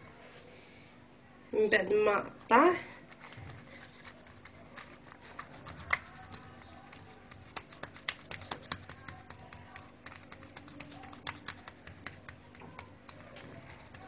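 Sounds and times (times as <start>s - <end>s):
hands patting dough: 2.3s - 14.0s.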